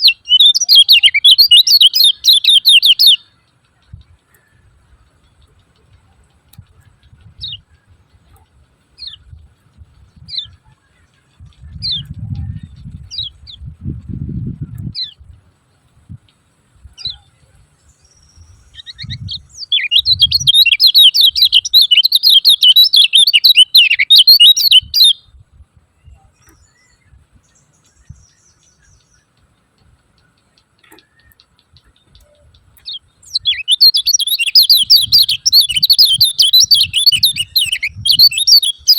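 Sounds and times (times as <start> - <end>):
bird sharp chirps: 0.0 - 9.4, 16.8 - 38.9
bird fast twittering: 0.0 - 13.7, 16.8 - 25.3, 26.0 - 38.9.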